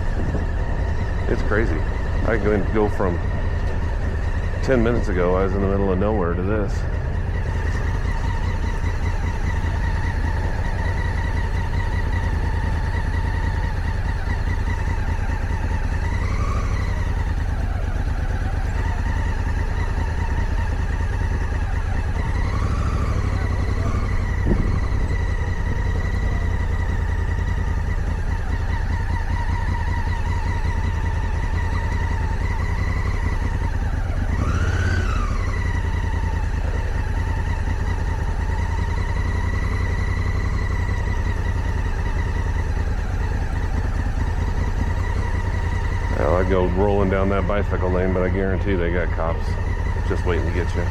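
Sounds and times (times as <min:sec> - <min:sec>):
motorcycle engine rumbling: 0:00.0 - 0:50.9.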